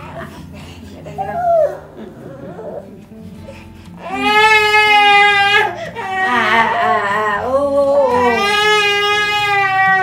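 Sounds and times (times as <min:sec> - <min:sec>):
infant crying: 0:01.0 - 0:02.9, 0:03.6 - 0:10.0.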